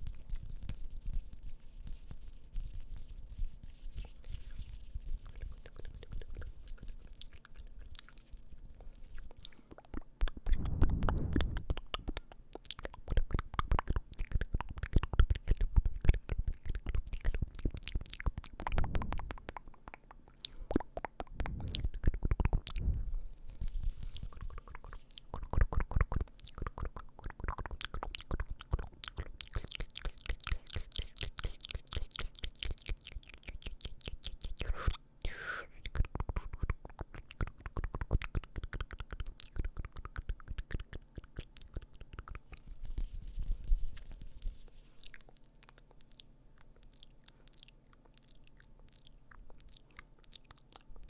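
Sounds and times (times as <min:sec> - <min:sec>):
low rumble with faint hiss: 0:00.0 - 0:51.0
lip and tongue clicks: 0:05.1 - 0:23.0, 0:24.0 - 0:51.0.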